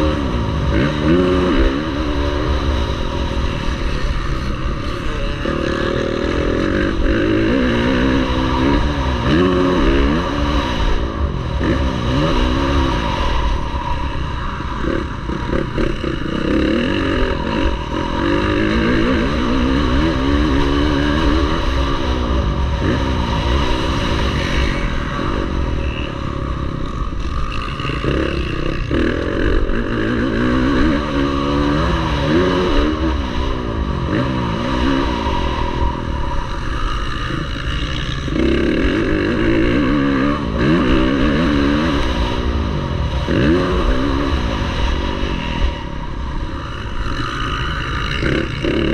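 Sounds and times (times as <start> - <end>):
motocross bike engine racing: 0.0 - 48.9.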